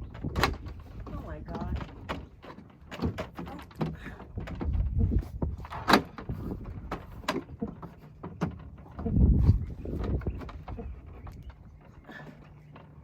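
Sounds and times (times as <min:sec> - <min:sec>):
low rumbles: 0:00.0 - 0:13.0.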